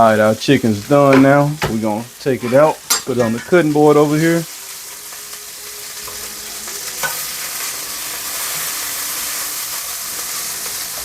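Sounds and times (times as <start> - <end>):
hot oil sizzling in a frying pan: 0.0 - 11.0.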